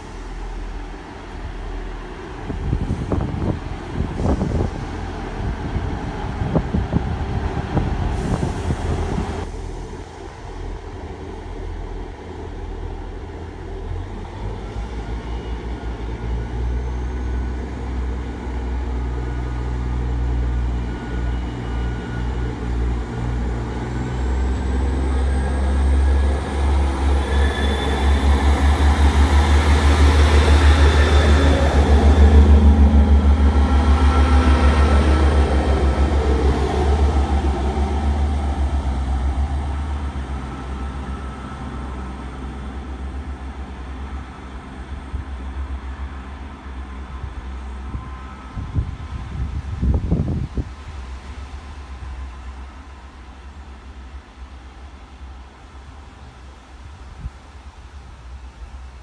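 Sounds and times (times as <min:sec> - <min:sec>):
diesel train engines throbbing: 0:00.0 - 0:59.0.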